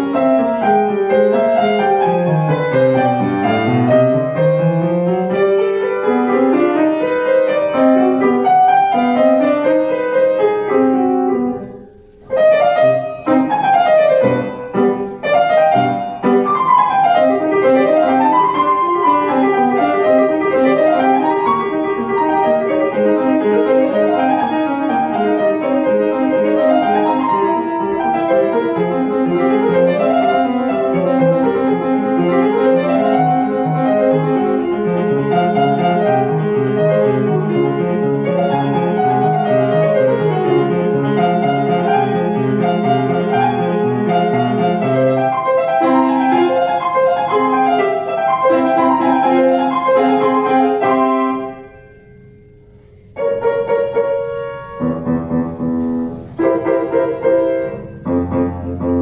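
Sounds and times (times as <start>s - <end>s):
grand piano playing classical piece: 0.0s - 59.0s.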